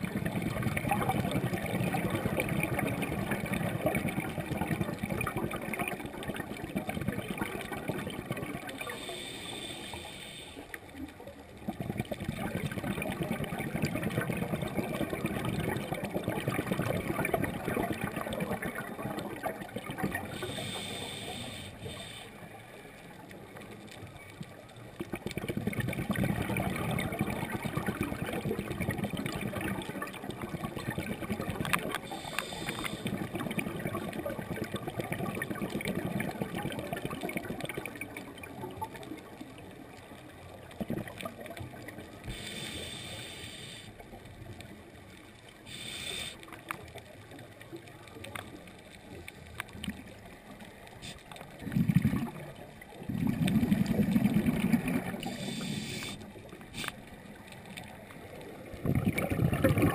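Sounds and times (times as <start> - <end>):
water gurgling and sloshing: 0.0 - 59.9.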